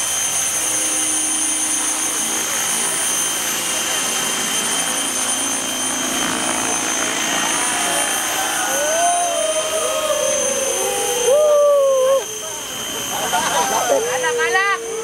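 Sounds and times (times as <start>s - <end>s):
model helicopter whine: 0.0s - 15.0s
pitched tone sliding: 0.1s - 15.0s.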